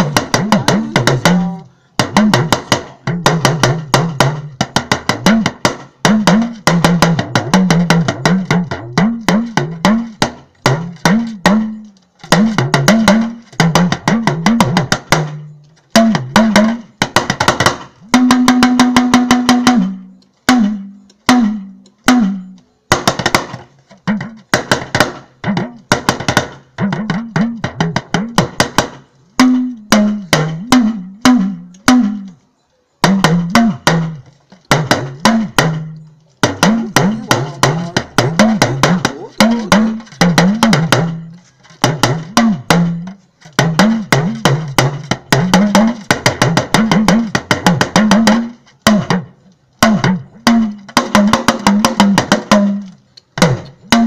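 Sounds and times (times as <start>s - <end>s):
drum roll: 0.0s - 32.3s, 33.0s - 54.0s
talking drum pitch-bending: 0.0s - 54.0s.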